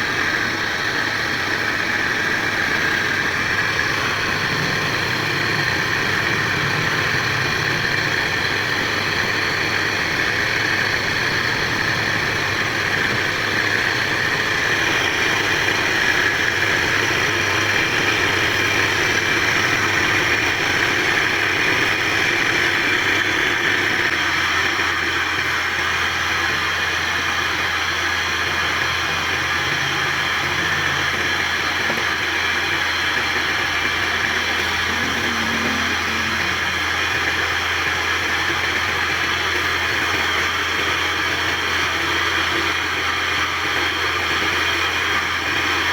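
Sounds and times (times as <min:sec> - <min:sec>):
machine humming and hissing: 0:00.0 - 0:45.9.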